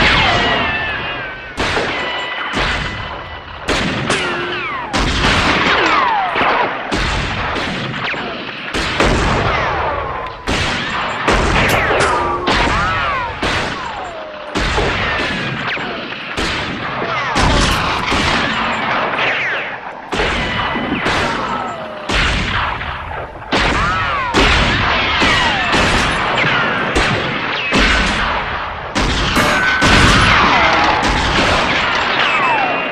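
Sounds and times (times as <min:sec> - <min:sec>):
gunshots: 0:00.0 - 0:32.9
whining bullet ricochet: 0:00.0 - 0:32.9.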